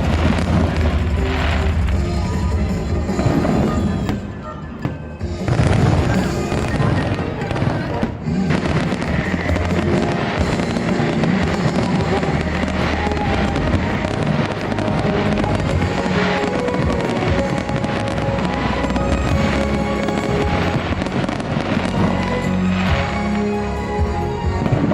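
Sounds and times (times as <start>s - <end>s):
fireworks bursting and crackling: 0.0s - 24.9s
show music over loudspeakers: 0.0s - 24.9s.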